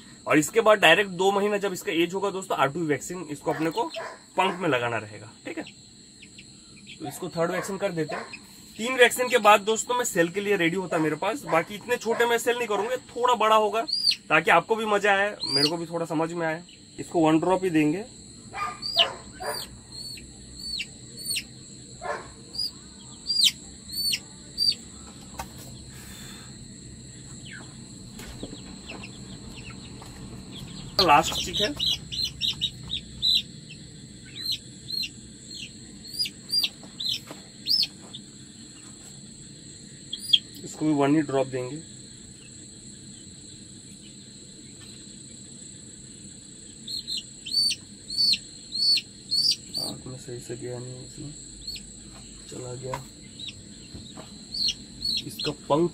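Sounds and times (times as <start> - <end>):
high-pitched insect drone: 0.0 - 55.9
chick peeping: 1.2 - 17.9, 18.5 - 26.2, 27.0 - 41.2, 46.7 - 50.1, 51.6 - 55.9.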